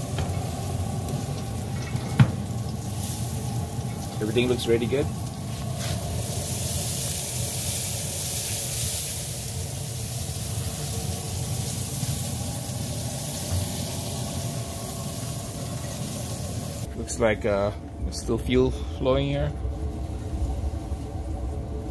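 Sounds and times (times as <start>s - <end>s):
low steady rumble: 0.0s - 21.9s.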